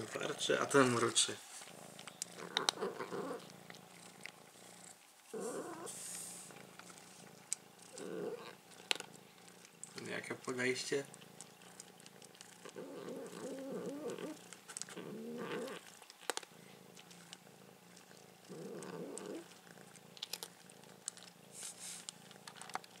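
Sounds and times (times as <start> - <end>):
cat crunching dry food: 0.0 - 23.0
cat growling: 0.0 - 23.0.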